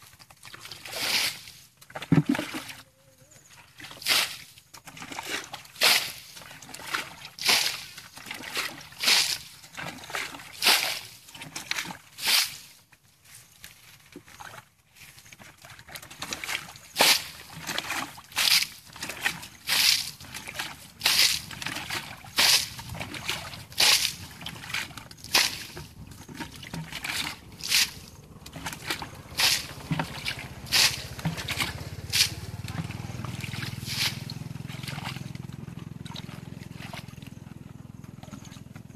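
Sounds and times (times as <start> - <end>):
water splashing from bucket: 0.0 - 2.9, 3.6 - 12.7, 14.2 - 38.9.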